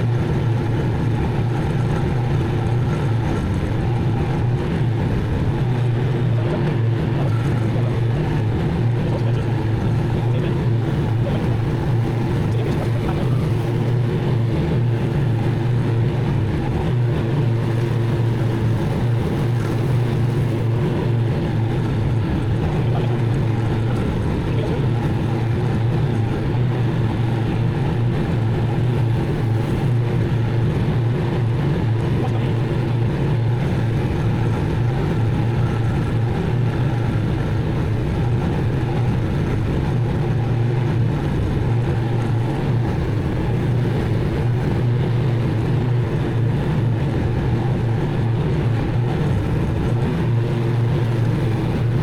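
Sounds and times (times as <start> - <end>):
mower engine running: 0.0 - 52.0.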